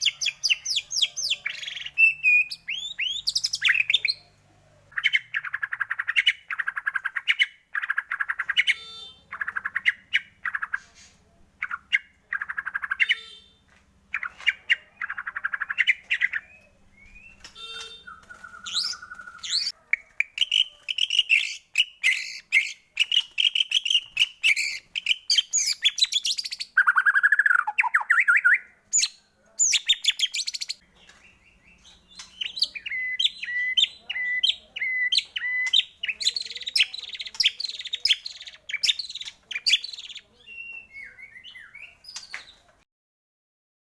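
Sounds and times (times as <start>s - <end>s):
songbird singing varied song: 0.0s - 10.8s, 14.2s - 42.6s.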